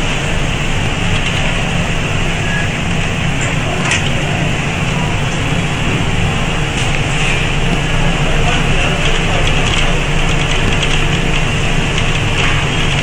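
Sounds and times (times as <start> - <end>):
whirring machinery and fans: 0.0 - 13.0.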